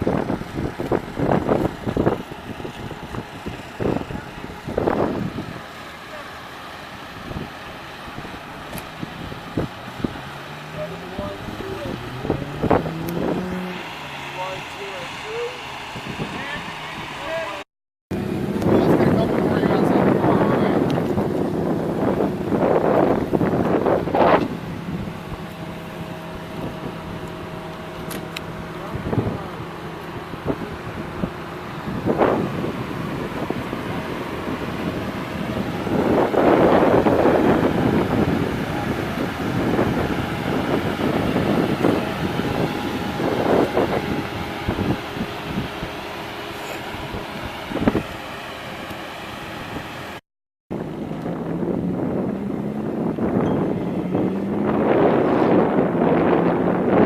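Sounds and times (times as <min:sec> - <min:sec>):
wind buffeting microphone: 0:00.0 - 0:06.2, 0:06.8 - 0:48.3, 0:49.2 - 0:57.0
car engine running: 0:00.0 - 0:57.0.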